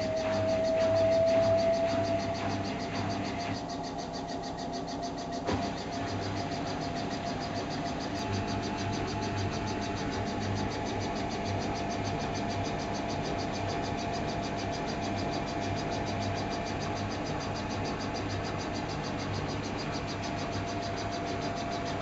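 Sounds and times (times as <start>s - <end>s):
constant whine: 0.0s - 22.0s
fast high-pitched pulsing: 0.0s - 22.0s
washing machine hum: 0.0s - 22.0s.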